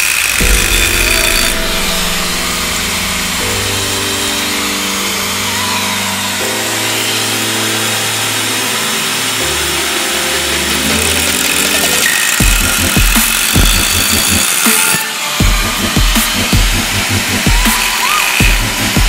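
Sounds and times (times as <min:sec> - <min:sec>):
music of sustained chords: 0:00.3 - 0:19.0.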